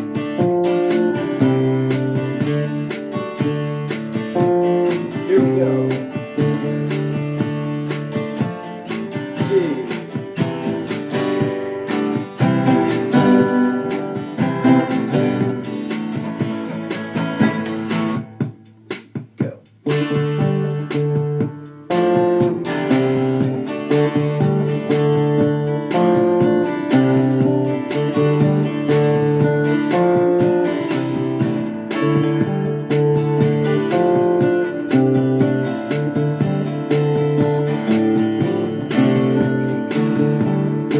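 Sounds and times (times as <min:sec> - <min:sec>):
acoustic guitar picked notes: 0:00.0 - 0:40.9.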